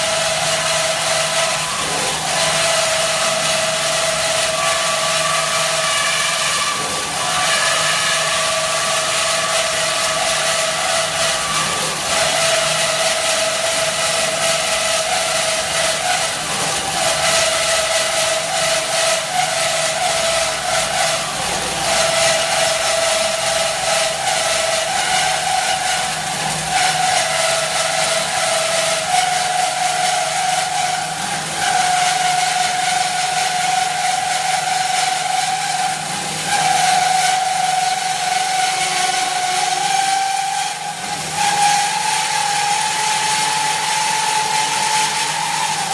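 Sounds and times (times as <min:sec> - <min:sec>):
band saw whining: 0:00.0 - 0:45.9.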